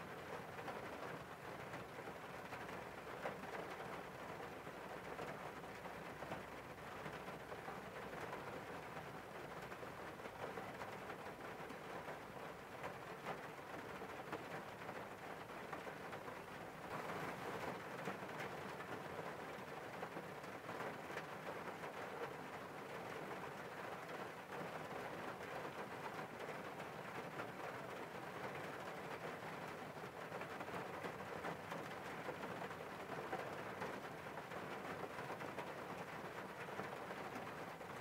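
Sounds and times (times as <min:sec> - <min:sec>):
rain on a car window: 0:00.0 - 0:38.0.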